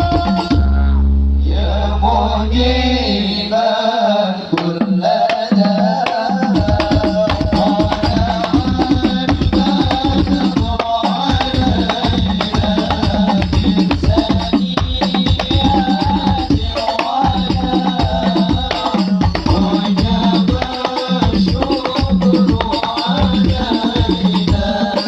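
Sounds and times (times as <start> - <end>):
hand-drum music with melody: 0.0 - 0.9, 4.5 - 25.0
fast low drum roll: 0.0 - 1.0, 5.6 - 25.0.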